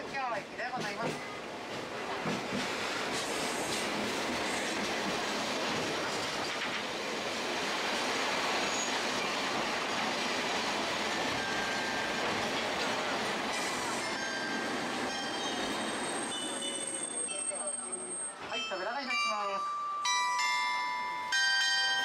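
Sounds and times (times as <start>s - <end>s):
train rumbling and rattling: 0.0s - 19.3s.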